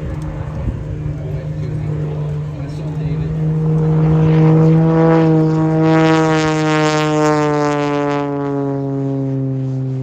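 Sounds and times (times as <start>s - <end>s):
propeller plane droning past: 0.0s - 10.0s.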